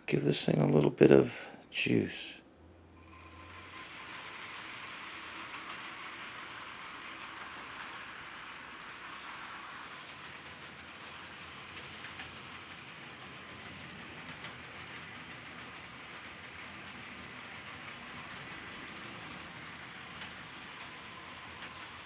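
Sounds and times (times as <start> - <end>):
model train rolling on track: 2.9 - 22.0
wheel clicks: 3.0 - 22.0.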